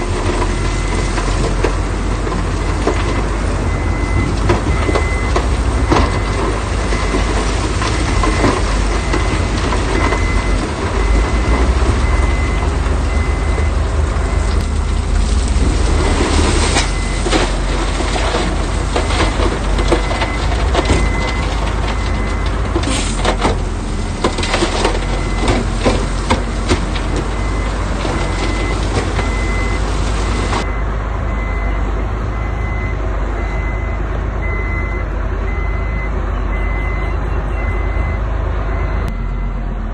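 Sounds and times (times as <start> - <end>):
diesel machinery running: 0.0 - 39.9
reversing alarm beeping: 2.8 - 14.6, 16.6 - 22.6, 24.4 - 39.6.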